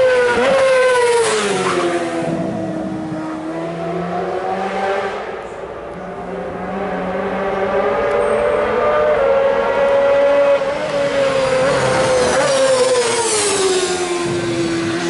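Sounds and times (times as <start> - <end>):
racing sidecar engine passing by: 0.0 - 15.0.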